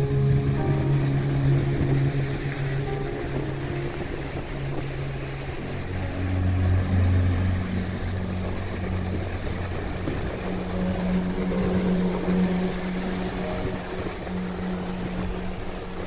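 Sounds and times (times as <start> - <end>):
low steady drone: 0.0 - 16.0
small waves washing on beach: 0.0 - 16.0.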